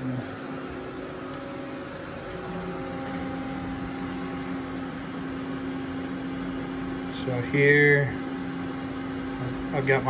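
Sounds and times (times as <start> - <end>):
machine-shop equipment humming: 0.0 - 10.0.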